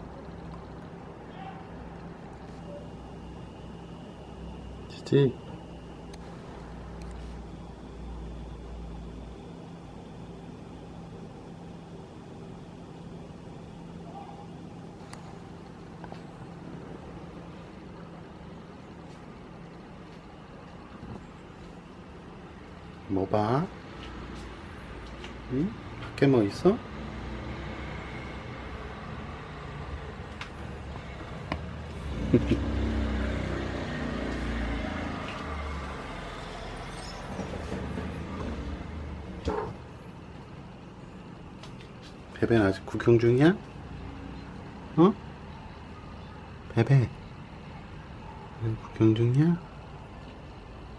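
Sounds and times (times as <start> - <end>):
faint constant tone: 0.0 - 50.9
low background hum: 0.0 - 50.9.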